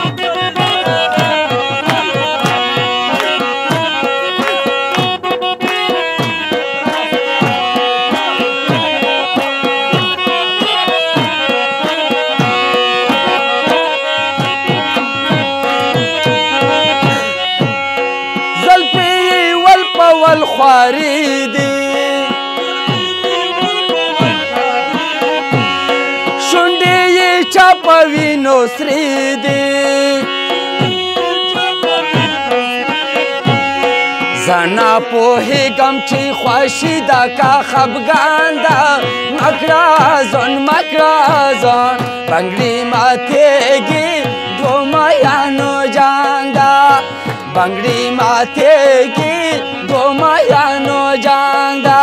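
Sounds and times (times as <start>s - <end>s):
barrel hand drum: 0.0s - 52.0s
harmonium melody: 0.0s - 52.0s.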